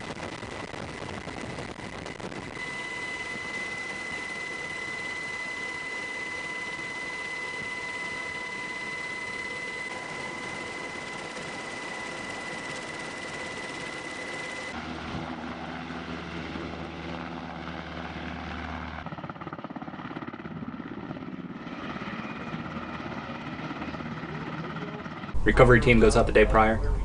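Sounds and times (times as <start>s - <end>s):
helicopter rotor and turbine: 0.0s - 27.0s.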